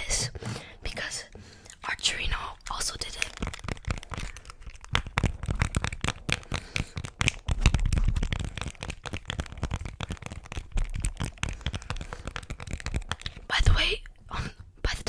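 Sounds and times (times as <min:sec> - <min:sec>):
crackling and clicking object: 0:01.7 - 0:13.8.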